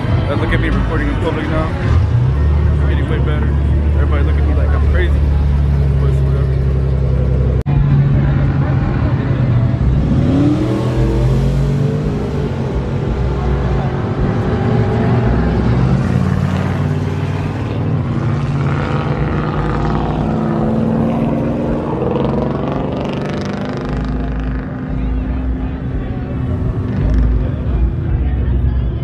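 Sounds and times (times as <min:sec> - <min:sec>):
pickup truck engines revving: 0:00.0 - 0:29.0.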